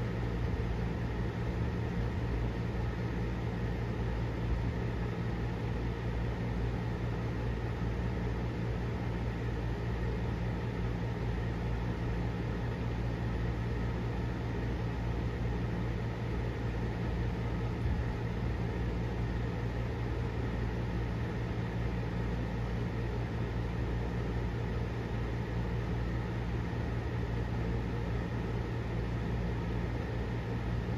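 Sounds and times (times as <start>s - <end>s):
low mechanical hum with hiss: 0.0s - 30.9s.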